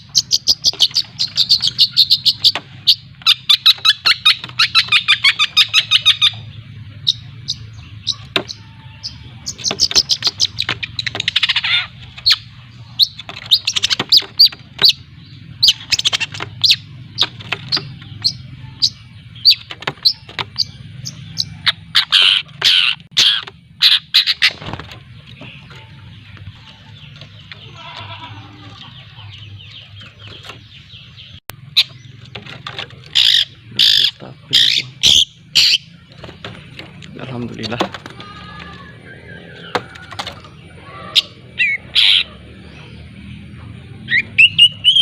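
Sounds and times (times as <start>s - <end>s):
shrike chattering calls: 0.0s - 43.0s
bird twittering warble: 0.0s - 45.0s.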